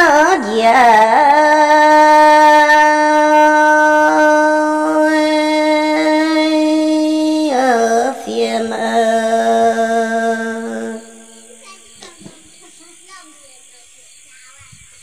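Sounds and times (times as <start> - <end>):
person singing folk song: 0.0 - 12.3.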